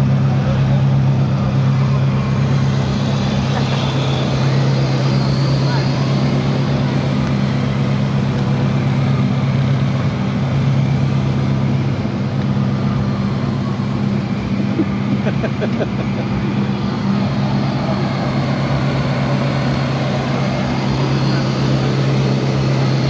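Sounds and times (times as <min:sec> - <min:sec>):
crowd chatter: 0:00.0 - 0:10.9, 0:11.5 - 0:23.0
rally car engine idling: 0:00.0 - 0:23.0.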